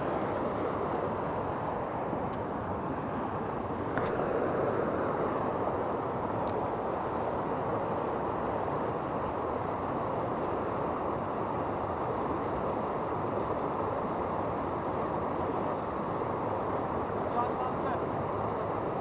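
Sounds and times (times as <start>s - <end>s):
river rushing over rapids: 0.0s - 19.0s.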